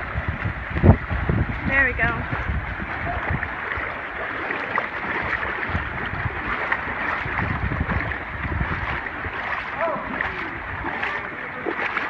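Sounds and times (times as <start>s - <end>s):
water sloshing around kayak: 0.0s - 12.0s
wind rumbling on microphone: 0.0s - 12.0s.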